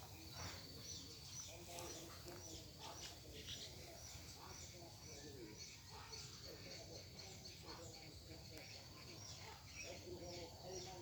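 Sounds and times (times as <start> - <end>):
faint distant voices: 0.0 - 11.0
small birds chirping: 0.0 - 11.0.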